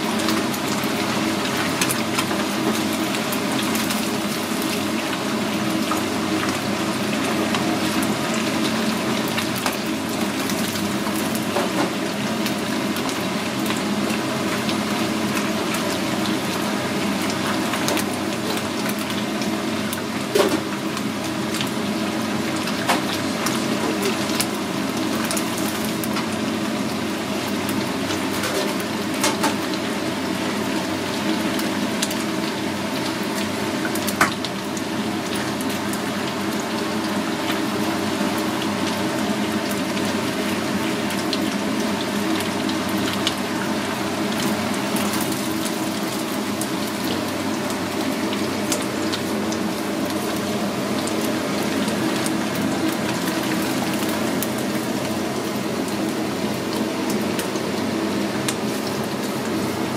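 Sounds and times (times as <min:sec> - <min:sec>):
oil sizzling in deep fryer: 0:00.0 - 0:59.9.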